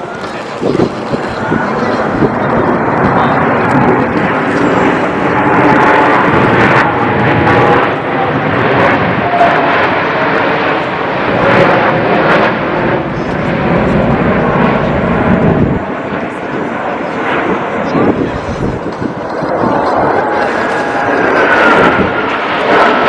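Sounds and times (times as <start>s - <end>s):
aircraft engine flying past: 0.0s - 23.0s.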